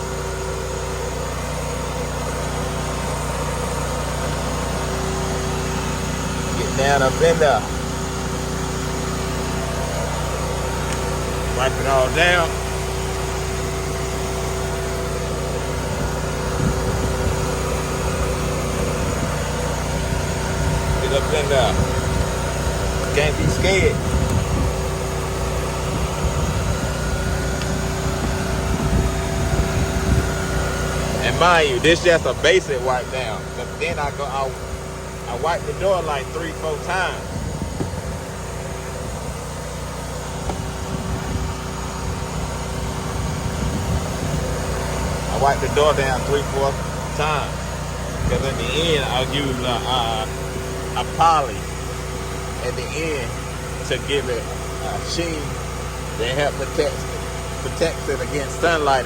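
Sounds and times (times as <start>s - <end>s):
low mechanical hum: 0.0s - 59.0s
machine drone: 0.0s - 59.0s.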